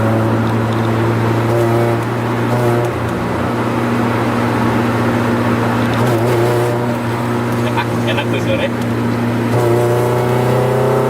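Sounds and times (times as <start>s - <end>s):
car engine low drone: 0.0s - 11.0s
tyre and road noise: 0.0s - 11.0s.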